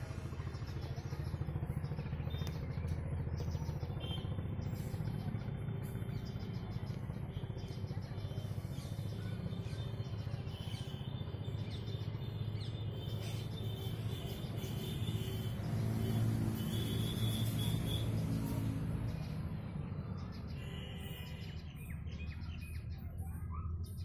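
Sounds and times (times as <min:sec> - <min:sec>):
birds chirping: 0:00.3 - 0:24.0.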